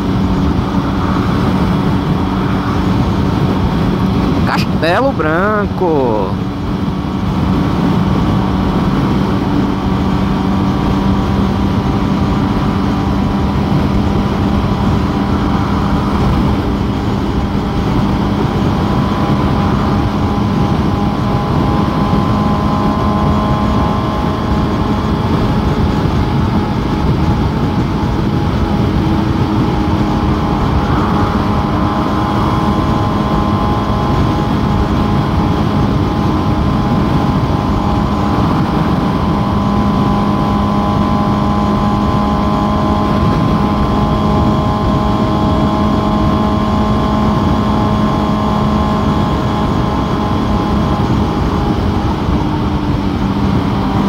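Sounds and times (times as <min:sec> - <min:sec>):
motorcycle engine cruising: 0:00.0 - 0:54.0
wind rush: 0:00.0 - 0:54.0.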